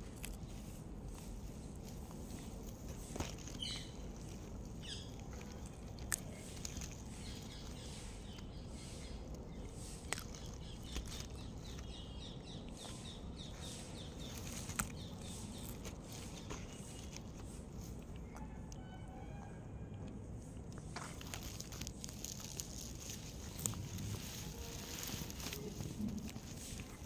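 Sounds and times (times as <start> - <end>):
tortoise crunching cucumber: 0.0 - 27.0
birds chirping: 0.3 - 19.6, 20.9 - 27.0.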